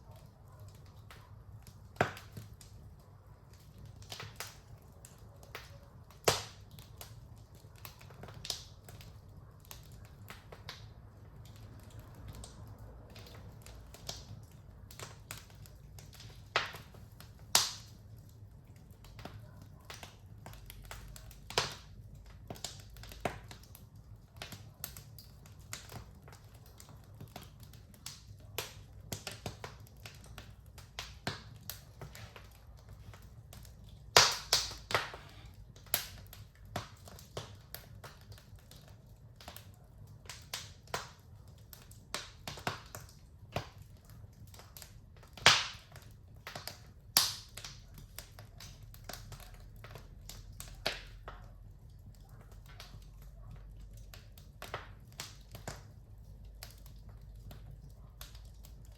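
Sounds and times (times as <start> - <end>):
wood fire crackling: 0.0 - 58.9
fire pops: 0.6 - 53.2, 53.8 - 58.9.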